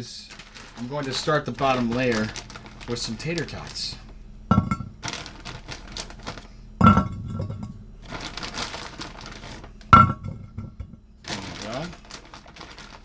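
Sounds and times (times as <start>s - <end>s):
frozen food knocking on a dish: 0.0s - 13.0s
plastic bag crinkling: 0.0s - 13.0s.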